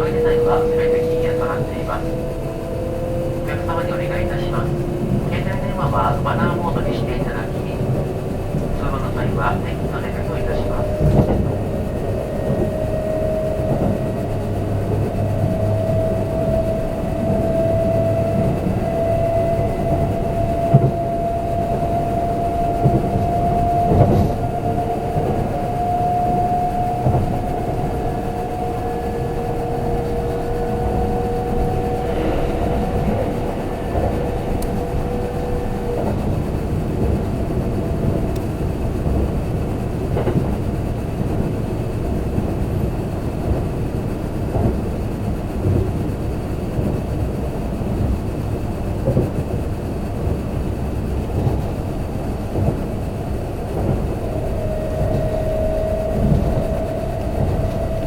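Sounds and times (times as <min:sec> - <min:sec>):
electric train rumble and whine: 0:00.0 - 0:58.0.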